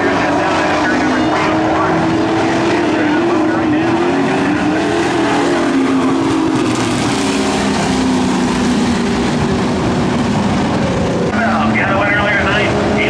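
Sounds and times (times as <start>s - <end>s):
race truck engines droning: 0.0s - 13.0s.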